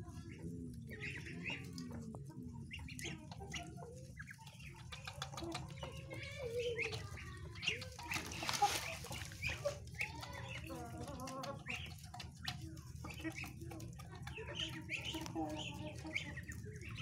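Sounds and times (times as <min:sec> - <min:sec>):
birds clucking: 0:00.0 - 0:17.0
bills pecking feed on stone: 0:00.2 - 0:17.0.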